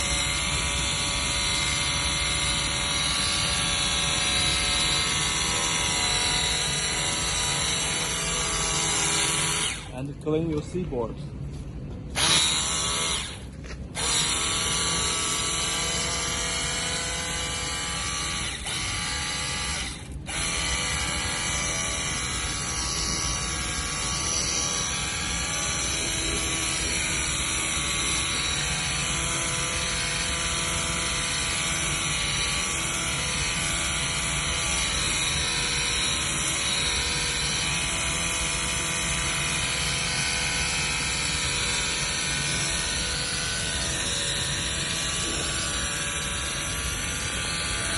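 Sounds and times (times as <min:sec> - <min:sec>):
pressure washer whine: 0:00.0 - 0:10.2, 0:11.5 - 0:47.9.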